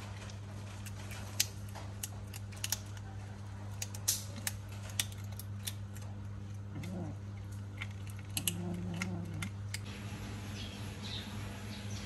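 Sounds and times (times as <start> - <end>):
cats chewing food: 0.0 - 9.9.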